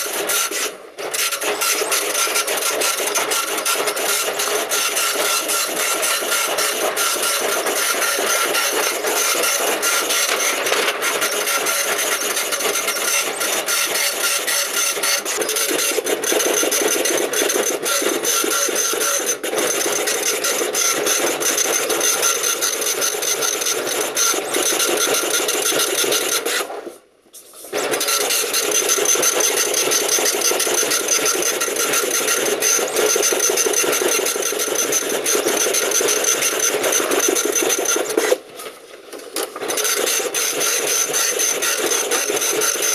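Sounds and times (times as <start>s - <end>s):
dot matrix printer rattling: 0.0s - 26.6s, 27.8s - 38.4s, 39.2s - 42.9s.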